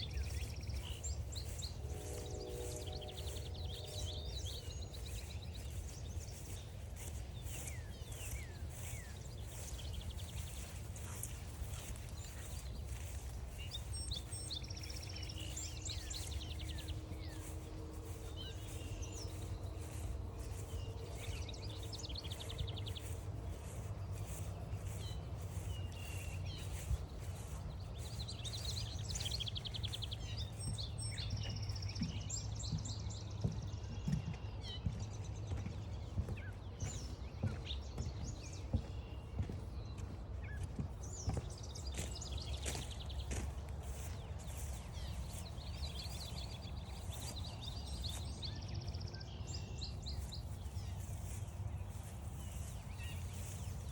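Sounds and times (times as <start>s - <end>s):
steady low rumble: 0.0s - 31.8s, 42.1s - 53.9s
songbirds singing and chirping: 0.0s - 53.9s
walking footsteps: 0.0s - 53.9s.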